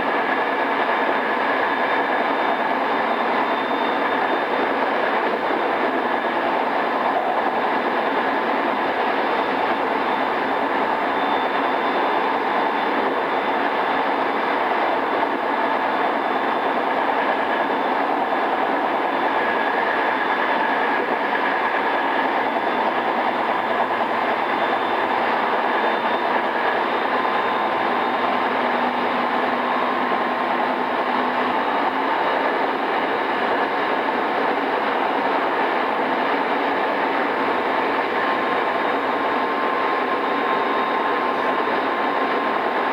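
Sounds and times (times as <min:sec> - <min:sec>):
train wheels rolling on rails: 0:00.0 - 0:42.9.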